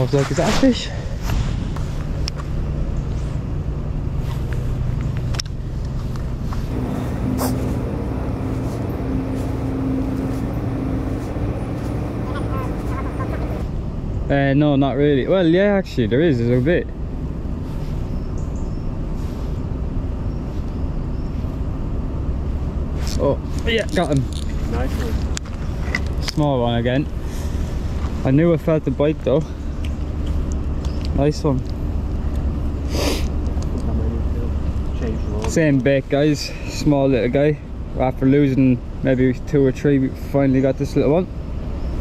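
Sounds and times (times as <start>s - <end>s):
low background rumble: 0.0s - 42.0s
low engine hum: 0.0s - 42.0s.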